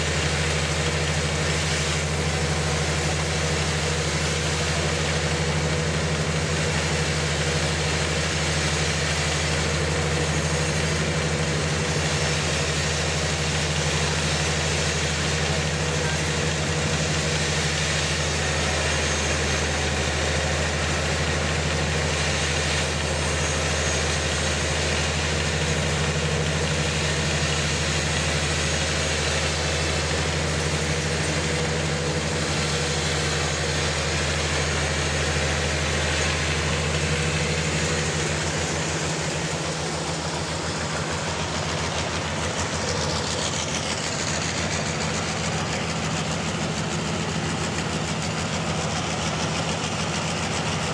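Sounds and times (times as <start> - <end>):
sawmill engine humming: 0.0 - 50.9.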